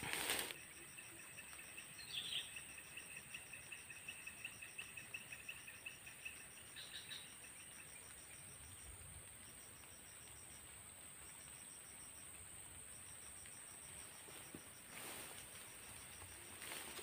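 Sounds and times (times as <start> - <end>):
high insect hum: 0.0 - 17.0
insect chirping: 0.0 - 17.0.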